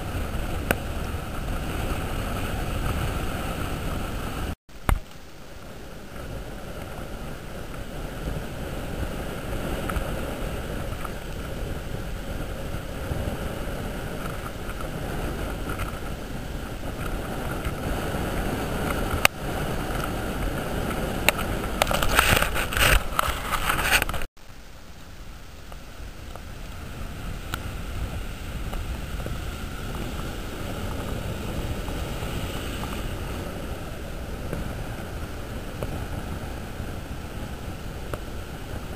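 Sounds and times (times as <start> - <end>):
wind buffeting microphone: 0.0 - 24.3, 25.6 - 38.9
surf washing in shallow water: 0.0 - 38.9.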